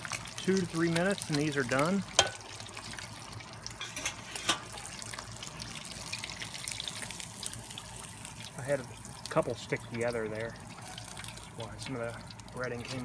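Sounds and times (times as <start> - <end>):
fish deep-frying in oil: 0.0 - 13.0
oil popping and crackling: 0.0 - 13.0.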